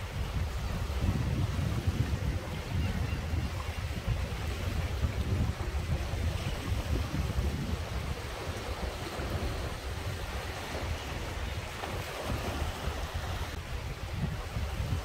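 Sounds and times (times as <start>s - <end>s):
waves breaking over rocks: 0.0s - 15.0s
wind rumbling on microphone: 0.0s - 15.0s.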